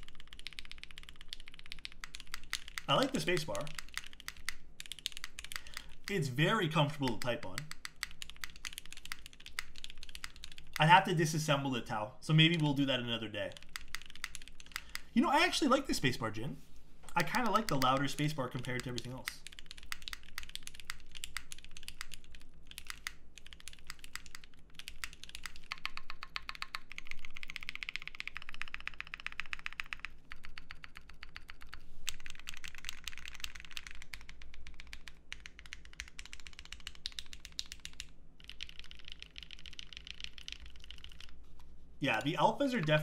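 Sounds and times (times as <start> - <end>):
fast mechanical keyboard typing: 0.0 - 11.6, 12.5 - 16.2, 17.1 - 41.4, 42.0 - 43.0.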